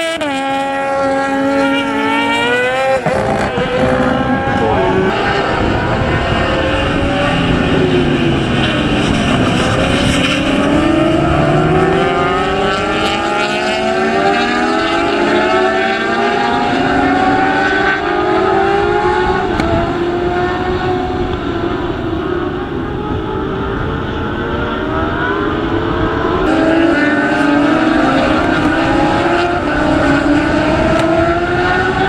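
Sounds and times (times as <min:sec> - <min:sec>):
racing motorcycles passing: 0:00.0 - 0:32.0.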